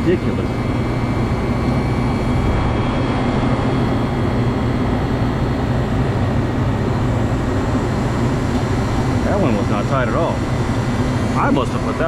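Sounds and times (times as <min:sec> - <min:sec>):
condenser fan drone: 0:00.0 - 0:12.0
low hum: 0:00.0 - 0:12.0.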